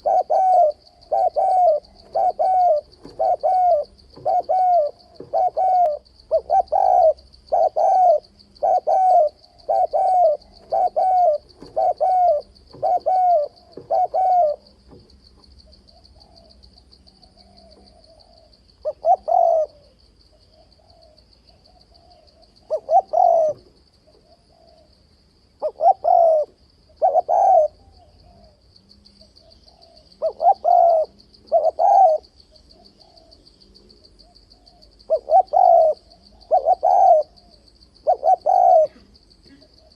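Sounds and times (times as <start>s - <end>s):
dove cooing: 0.0s - 25.0s, 25.6s - 28.6s, 29.2s - 39.9s.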